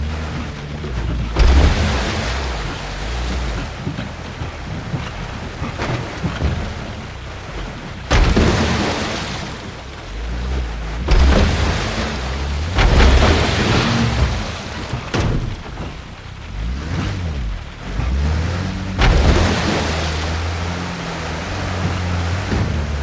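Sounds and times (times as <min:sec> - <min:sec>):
engine running low: 0:00.0 - 0:23.0
heavy rain: 0:00.0 - 0:23.0.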